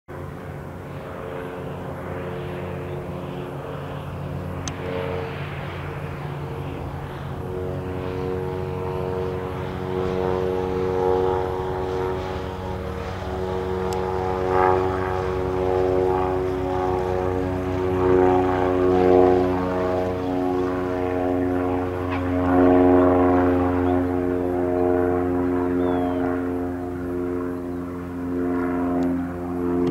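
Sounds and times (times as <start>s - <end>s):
propeller airplane engine drone: 0.1s - 29.9s.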